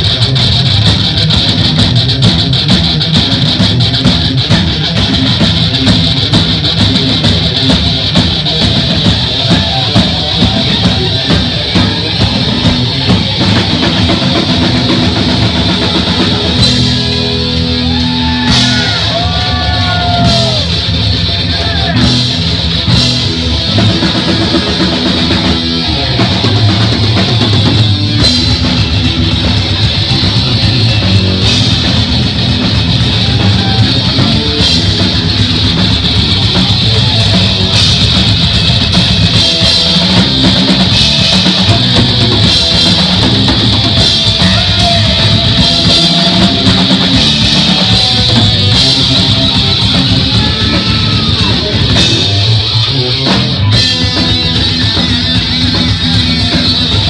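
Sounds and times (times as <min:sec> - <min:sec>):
heavy metal band playing: 0:00.0 - 0:57.0.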